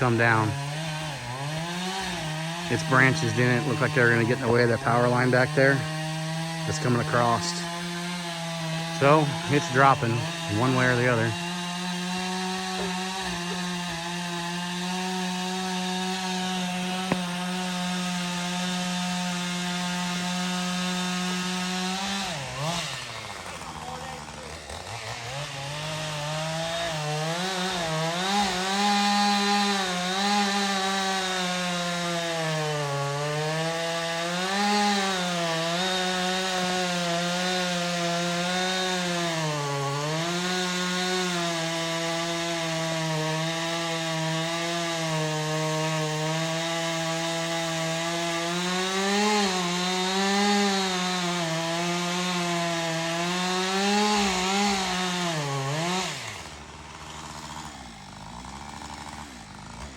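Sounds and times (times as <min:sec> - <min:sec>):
chainsaw cutting through tree trunk: 0:00.0 - 0:59.9.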